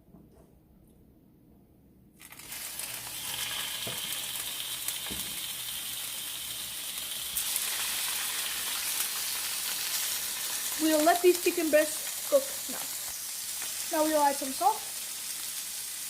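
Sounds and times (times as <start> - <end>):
chicken sizzling in a pan: 2.2 - 16.0.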